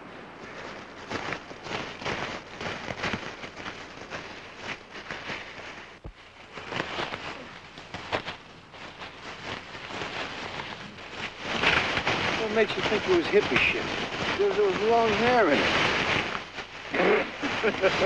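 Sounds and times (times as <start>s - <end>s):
footsteps crunching through dry leaves: 0.0s - 18.0s.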